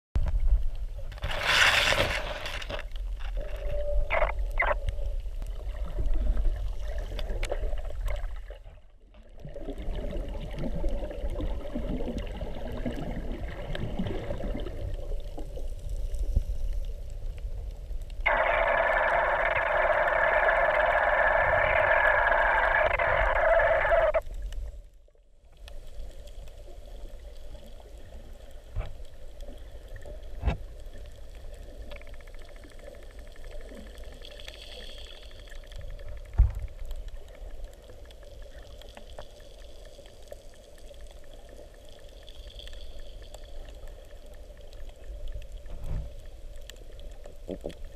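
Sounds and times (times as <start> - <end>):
underwater rumble: 0.2 - 47.9
steady hiss with hum: 9.4 - 47.9.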